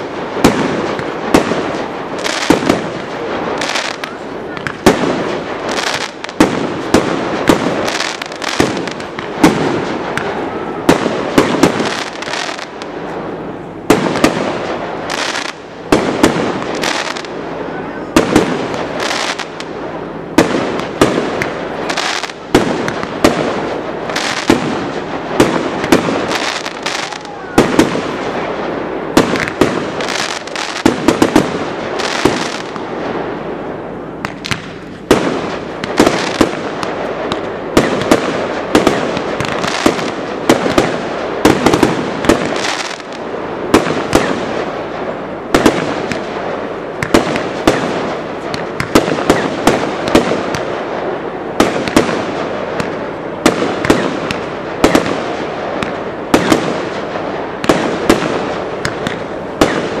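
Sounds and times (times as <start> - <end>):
fireworks bursting: 0.0 - 60.0.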